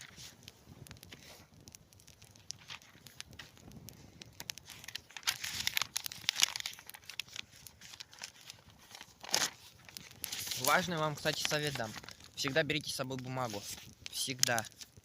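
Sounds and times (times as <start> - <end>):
paper crumpling and tearing: 0.0 - 0.4, 2.3 - 3.6, 4.6 - 15.0.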